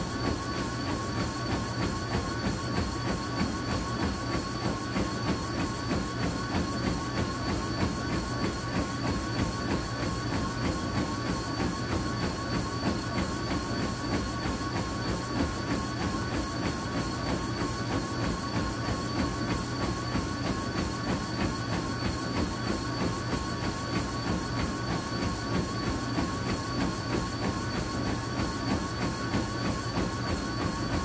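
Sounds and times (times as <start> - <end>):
feet striking treadmill belt: 0.0 - 31.0
treadmill motor whine: 0.0 - 31.0.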